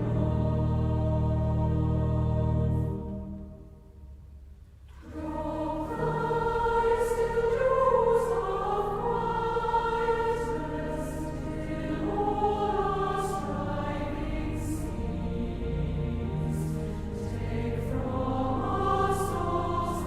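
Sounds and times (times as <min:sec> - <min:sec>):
choir singing worship song: 0:00.0 - 0:03.7, 0:04.9 - 0:20.0.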